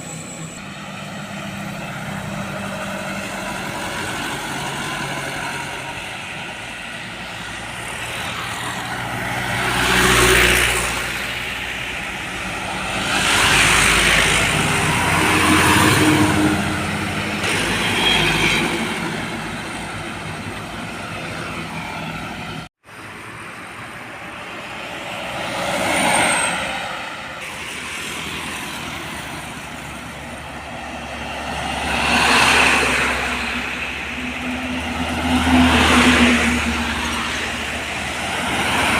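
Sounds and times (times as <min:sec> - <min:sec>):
trucks and cars passing: 0:00.0 - 0:38.9.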